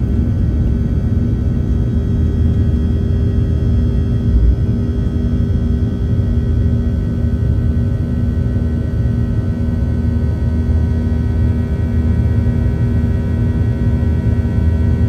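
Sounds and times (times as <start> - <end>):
constant hum: 0.0 - 15.0
jet engine rumble: 0.0 - 15.0.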